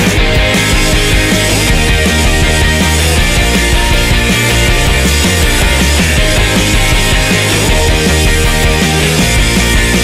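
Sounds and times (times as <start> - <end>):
rock music with steady beat: 0.0 - 10.0.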